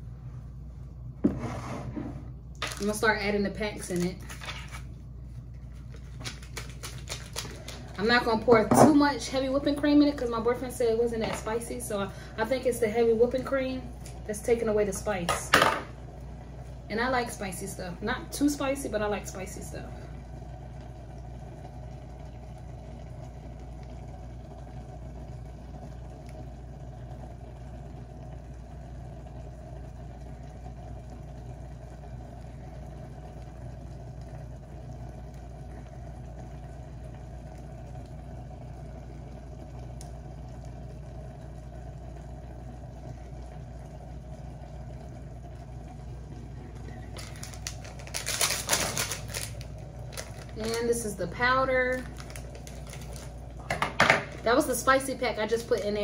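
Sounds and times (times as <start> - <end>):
water boiling in a pot: 0.0 - 56.0.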